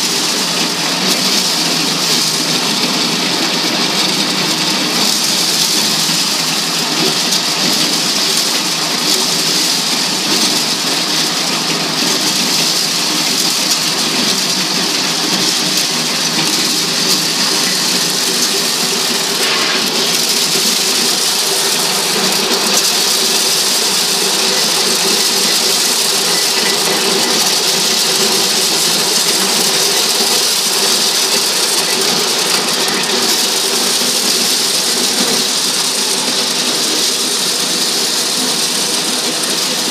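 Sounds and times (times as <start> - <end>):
corn sheller rattling: 0.0 - 39.9.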